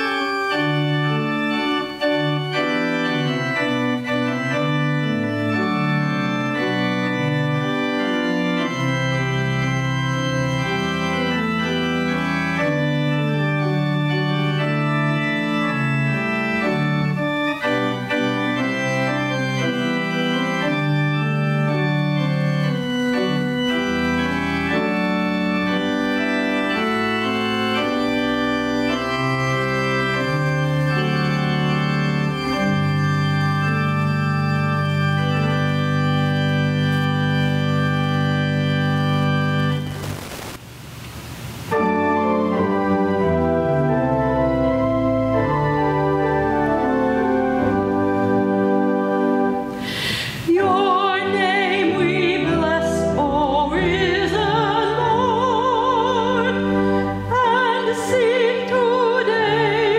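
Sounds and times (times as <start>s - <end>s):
deep organ pedal notes: 0.0s - 40.6s, 41.7s - 49.8s, 50.9s - 59.9s
pipe organ chords: 0.0s - 40.6s, 41.7s - 59.9s.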